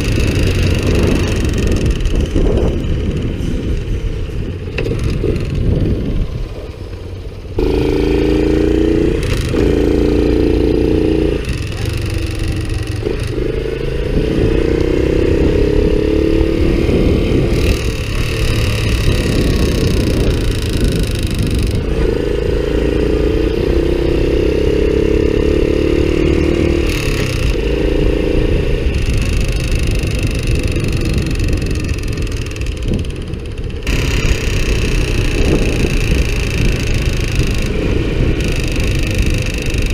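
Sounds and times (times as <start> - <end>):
abnormal engine noise: 0.0 - 39.9
motorcycle engine running: 0.0 - 39.9.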